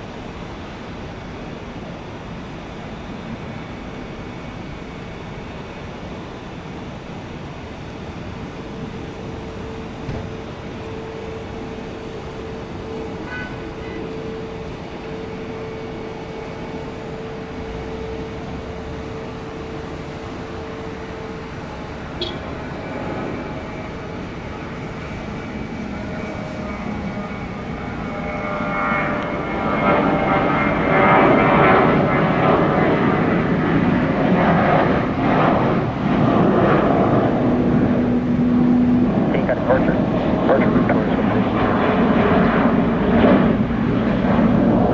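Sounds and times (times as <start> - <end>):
jet airliner engines humming: 0.0 - 44.9.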